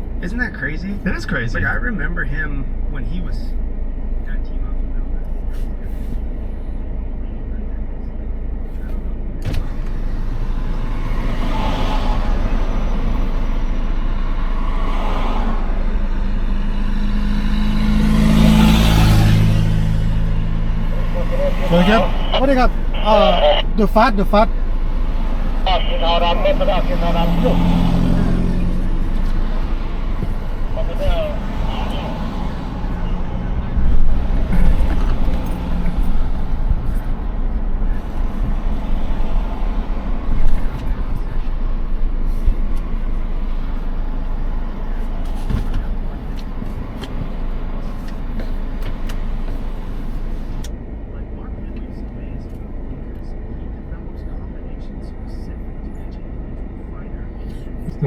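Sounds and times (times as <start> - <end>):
low engine hum: 0.0 - 58.0
low traffic rumble: 0.0 - 58.0
passing traffic: 0.0 - 58.0.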